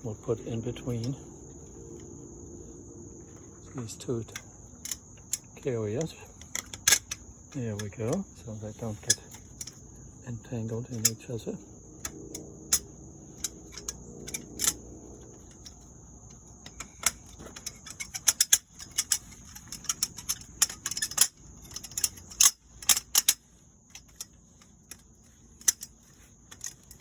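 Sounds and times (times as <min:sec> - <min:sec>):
insect trill: 0:00.0 - 0:27.0
metal hardware clicking: 0:04.2 - 0:10.0, 0:10.6 - 0:27.0.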